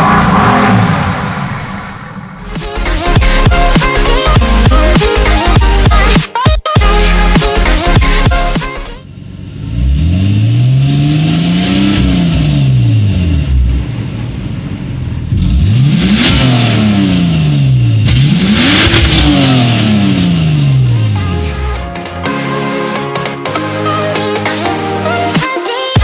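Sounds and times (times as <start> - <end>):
car engine revving: 0.0 - 6.2, 6.8 - 22.4.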